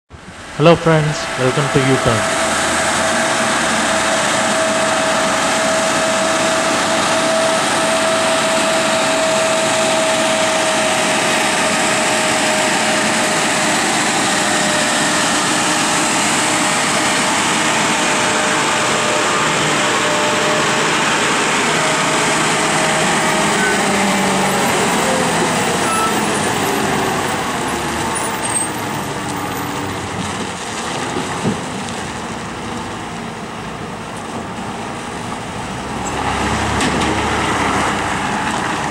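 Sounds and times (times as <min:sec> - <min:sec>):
lorry diesel engine under load: 0:00.1 - 0:38.9.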